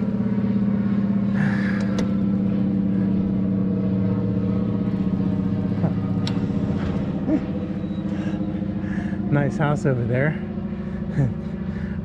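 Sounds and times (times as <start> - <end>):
motor drone: 0.0 - 12.0.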